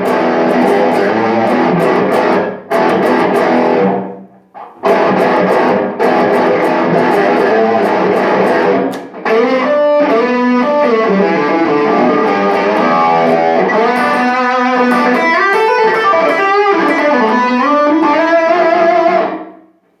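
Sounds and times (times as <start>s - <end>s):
overdriven electric guitar melody: 0.0s - 19.9s.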